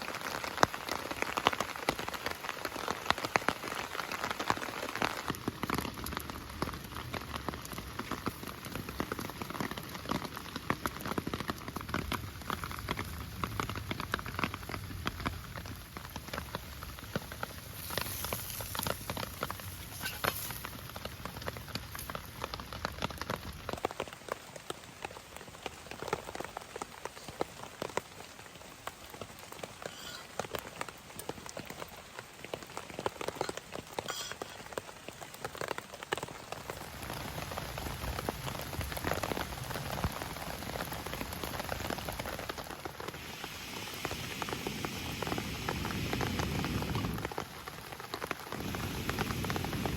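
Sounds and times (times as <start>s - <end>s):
heavy rain on tent fabric: 0.0s - 49.9s.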